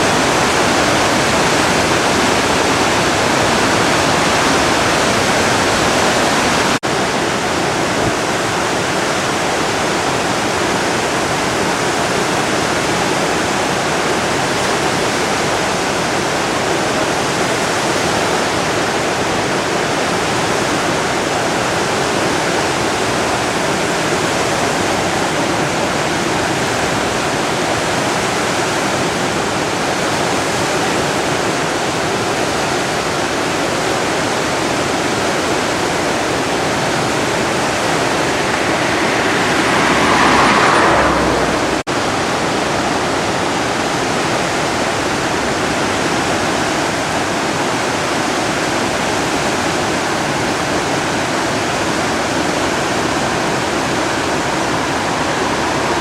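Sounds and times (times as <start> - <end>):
flooded river rushing: 0.0 - 56.0.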